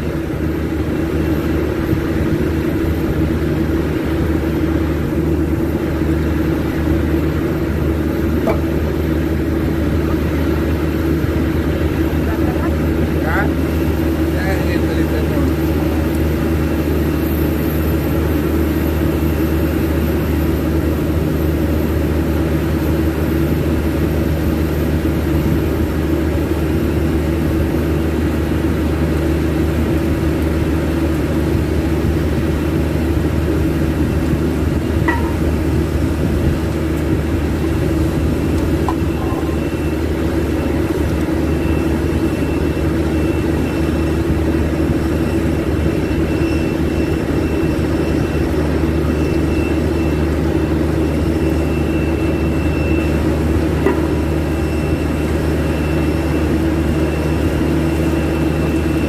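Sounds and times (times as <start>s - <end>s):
faint high whine: 0.0s - 59.0s
machinery droning: 0.0s - 59.0s.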